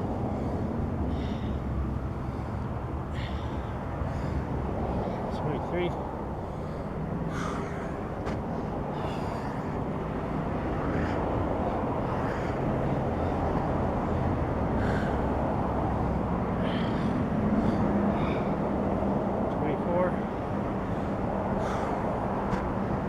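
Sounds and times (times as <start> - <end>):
low hum: 0.0 - 19.6
low rumble and hiss: 0.0 - 23.0.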